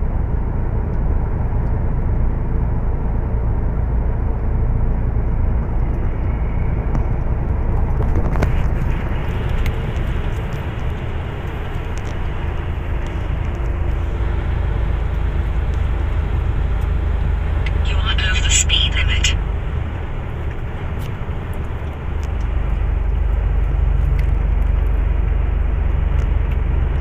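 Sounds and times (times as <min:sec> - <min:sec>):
truck engine rumble: 0:00.0 - 0:27.0.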